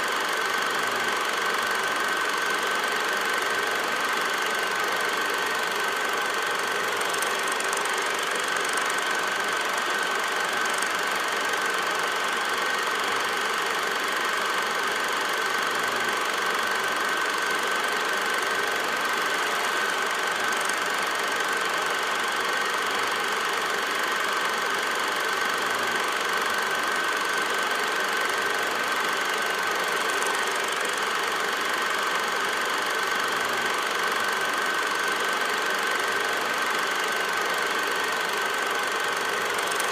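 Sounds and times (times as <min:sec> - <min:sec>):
film projector clattering: 0:00.0 - 0:39.9
high whine of projector: 0:00.0 - 0:39.9.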